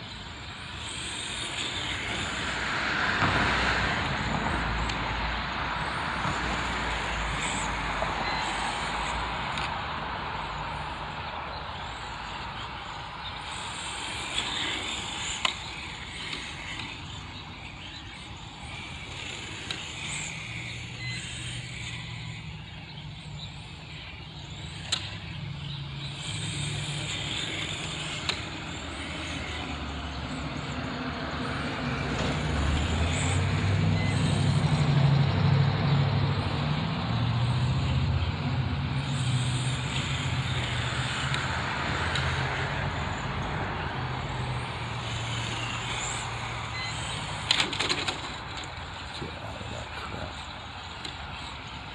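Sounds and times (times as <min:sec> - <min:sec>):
electric motor whining: 0:00.0 - 0:51.9
road vehicle engine rumble: 0:00.0 - 0:51.9.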